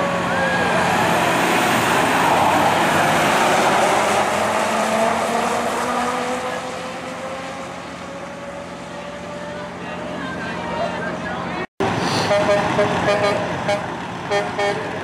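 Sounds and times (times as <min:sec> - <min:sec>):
diesel truck accelerating at full throttle: 0:00.0 - 0:15.0.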